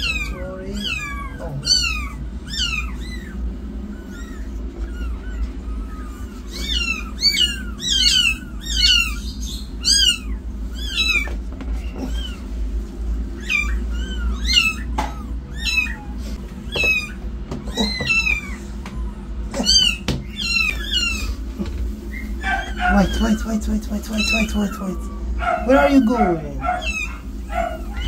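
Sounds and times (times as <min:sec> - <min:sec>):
newborn kittens mewing: 0:00.0 - 0:28.0.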